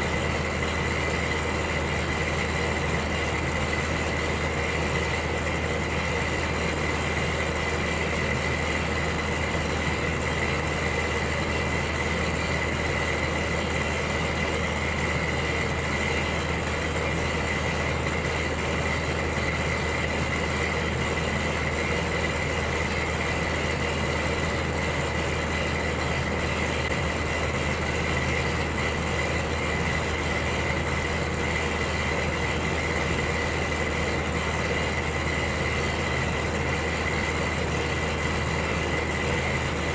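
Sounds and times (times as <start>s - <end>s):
thin steady whine: 0.0s - 39.9s.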